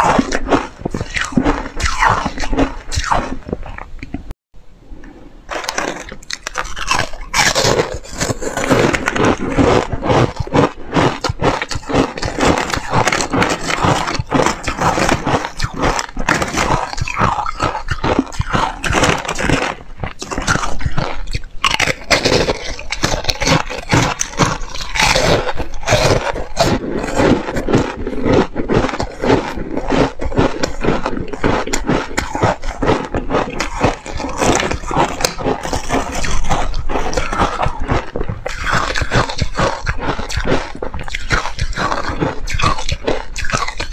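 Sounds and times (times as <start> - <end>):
ice being chewed crunching: 0.0 - 4.3, 5.5 - 43.9.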